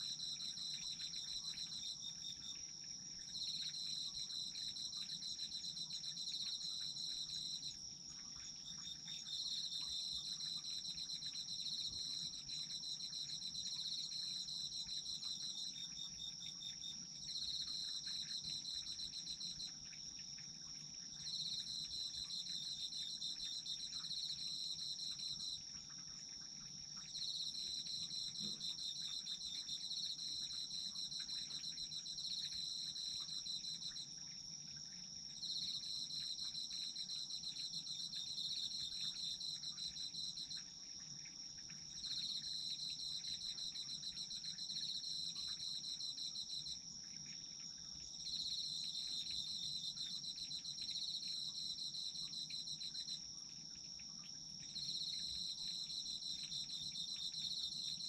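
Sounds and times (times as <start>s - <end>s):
lower pulsing insect trill: 0.0s - 58.0s
steady high insect trill: 0.0s - 58.0s.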